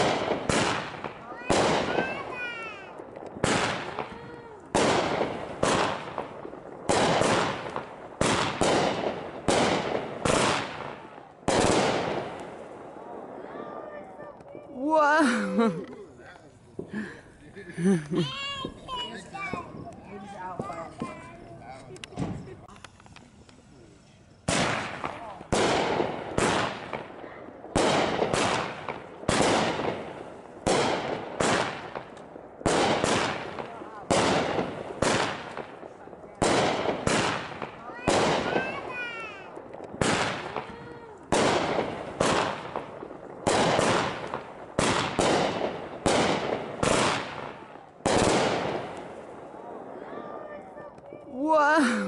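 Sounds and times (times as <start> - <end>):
fireworks bursting with bangs: 0.0 - 52.0
fireworks crackle: 0.0 - 52.0.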